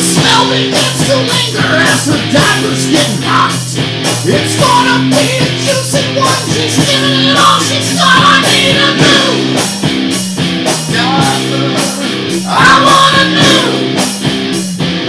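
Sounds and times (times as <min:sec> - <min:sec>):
person singing: 0:00.0 - 0:09.6, 0:10.9 - 0:14.0
distorted electric guitar riff: 0:00.0 - 0:15.0
steady drum beat: 0:00.0 - 0:15.0.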